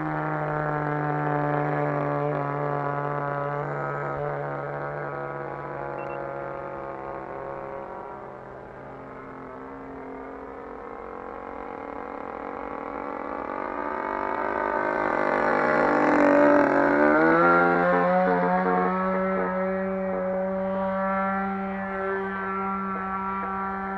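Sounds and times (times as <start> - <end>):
model airplane engine: 0.0 - 23.9.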